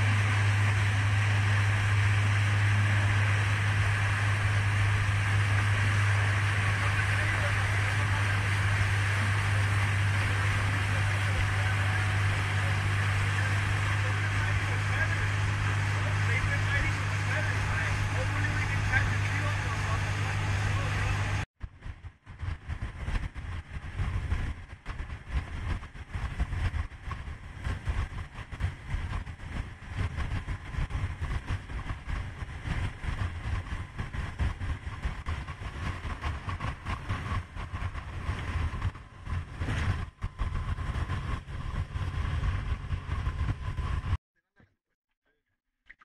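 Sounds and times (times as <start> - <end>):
boat moving through water: 0.0 - 44.2
rushing wind: 0.0 - 44.2.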